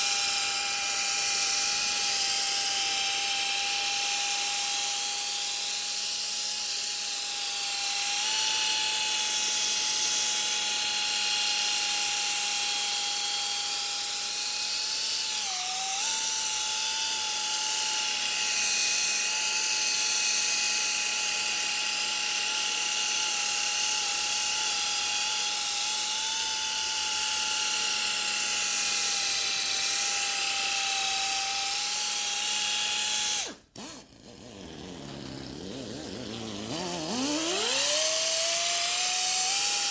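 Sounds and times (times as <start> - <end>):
power tool whining: 0.0 - 39.9.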